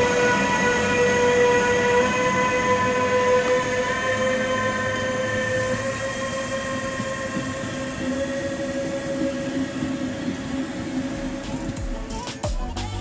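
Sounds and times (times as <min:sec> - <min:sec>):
electric train drive whine: 0:00.0 - 0:13.0.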